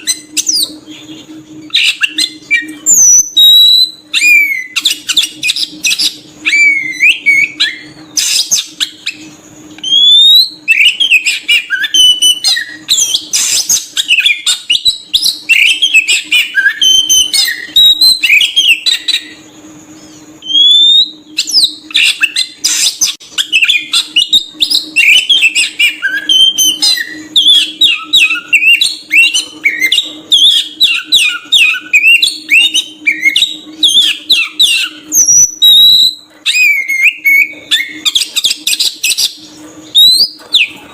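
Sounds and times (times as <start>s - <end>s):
bird singing whistles and chirps: 0.0s - 40.9s
faint steady hum: 0.0s - 40.9s.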